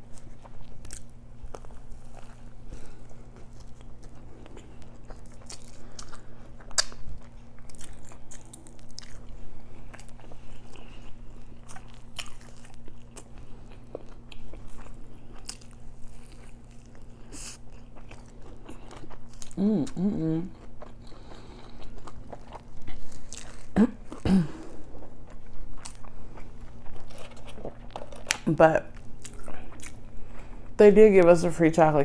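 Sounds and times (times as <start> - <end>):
chewing and biting sandwich: 0.0 - 30.8.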